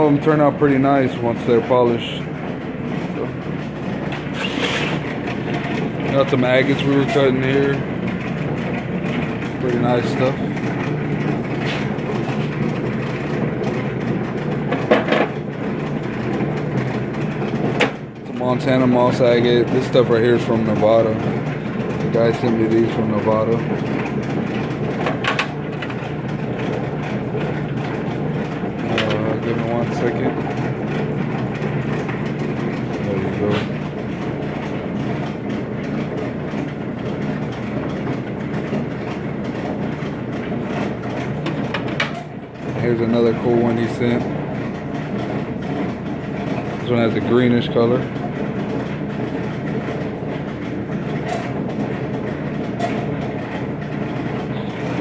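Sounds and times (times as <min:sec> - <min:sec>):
polishing machine motor rattling: 0:00.0 - 0:55.0.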